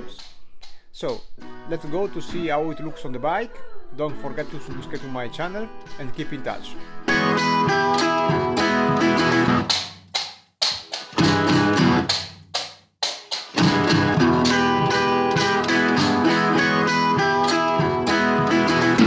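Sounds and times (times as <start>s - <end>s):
plucked guitar music: 0.0s - 3.2s, 4.2s - 9.8s, 10.8s - 12.3s, 13.0s - 19.0s.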